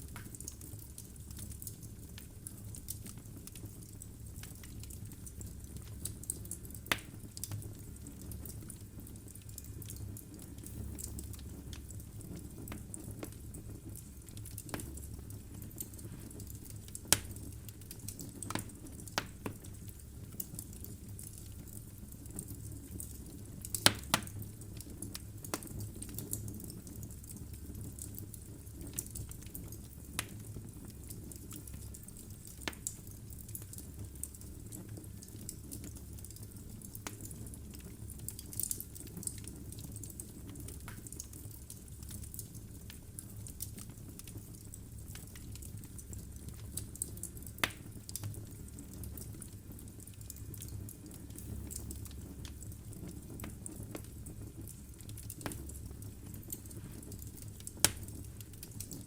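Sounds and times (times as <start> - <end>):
fire crackling and popping: 0.0 - 59.0
low rumble of flame: 0.0 - 59.0.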